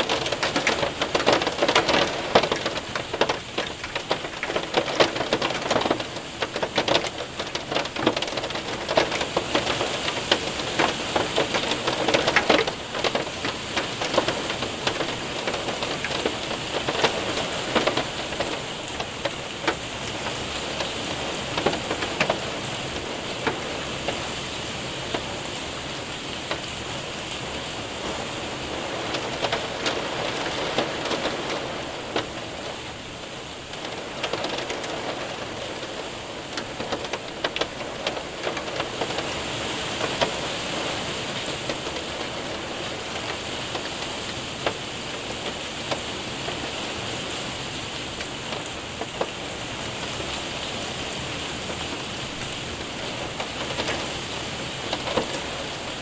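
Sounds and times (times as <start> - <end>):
hailstones ticking: 0.0 - 56.0
heavy rain hissing: 0.0 - 56.0.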